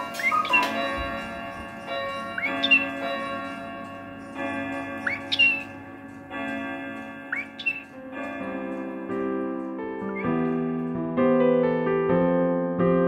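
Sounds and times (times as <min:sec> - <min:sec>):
chiming clock melody: 0:00.0 - 0:11.2.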